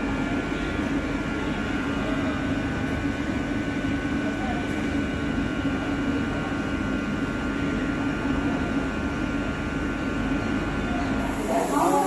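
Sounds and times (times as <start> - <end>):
train machine hum: 0.0 - 12.0.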